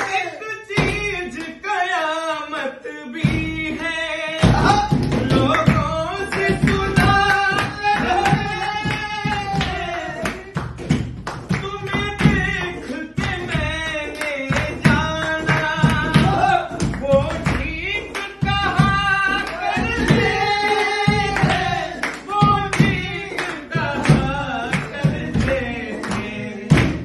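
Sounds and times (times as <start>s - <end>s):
hand claps: 0.0s - 1.6s, 2.5s - 27.0s
men singing together: 0.0s - 27.0s.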